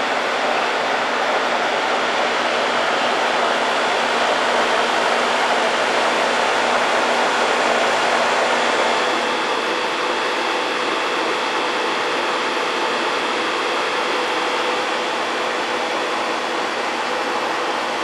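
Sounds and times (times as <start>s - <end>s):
air conditioner fan rush: 0.0s - 18.0s.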